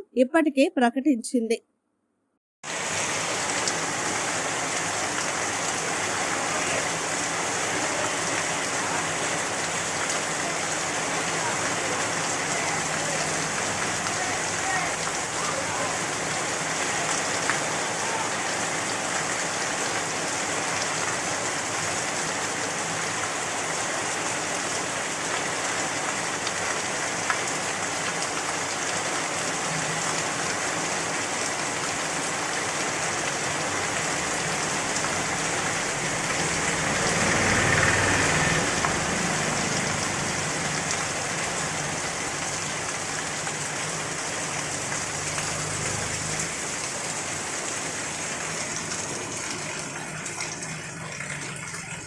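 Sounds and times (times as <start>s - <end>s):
heavy rain falling: 2.6s - 52.0s.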